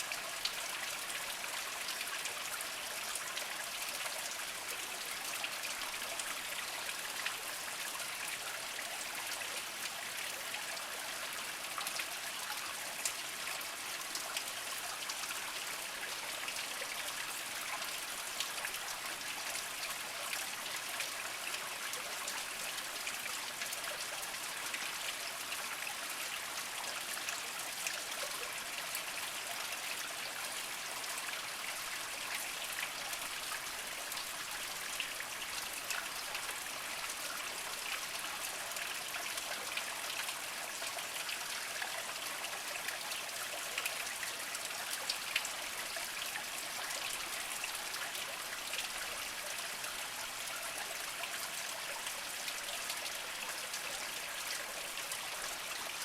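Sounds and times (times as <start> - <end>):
spring water trickling over rocks: 0.0 - 56.0.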